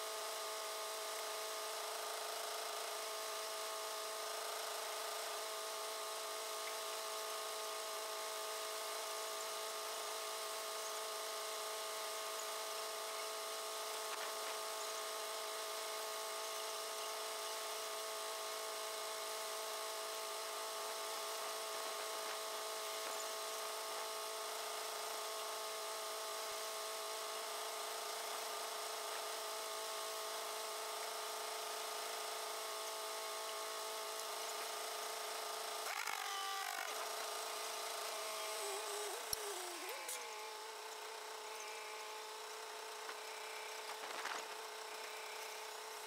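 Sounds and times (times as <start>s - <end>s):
concrete mixer drum whine: 0.0s - 46.0s.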